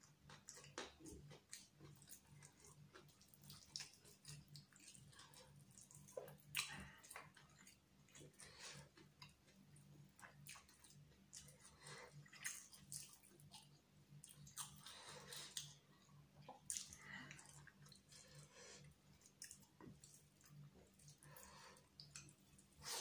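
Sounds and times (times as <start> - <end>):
chewing and lip smacks: 0.0 - 23.0
faint low hum: 0.0 - 23.0.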